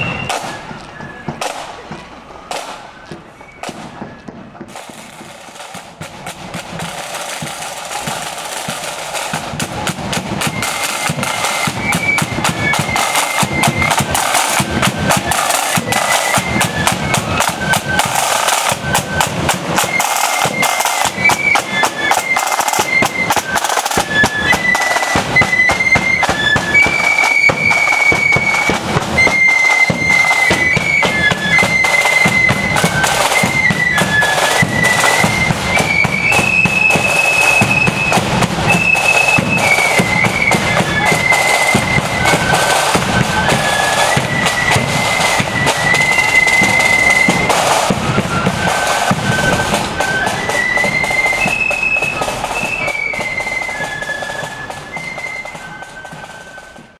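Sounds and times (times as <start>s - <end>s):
flutes playing high melody: 0.0s - 56.9s
snare drum rolls: 0.0s - 56.9s.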